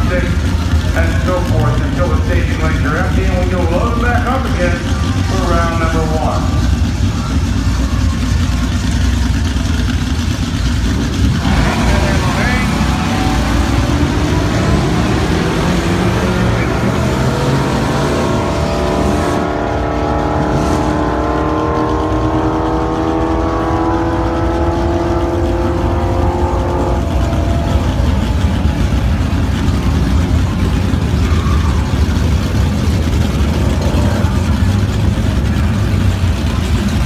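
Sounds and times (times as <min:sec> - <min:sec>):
car engines idling: 0:00.0 - 0:37.0
engine revving: 0:00.0 - 0:37.0.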